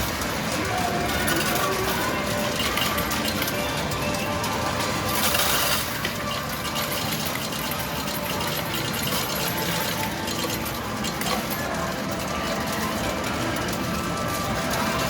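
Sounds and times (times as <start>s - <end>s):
metal medals clinking and clattering: 0.8s - 15.0s.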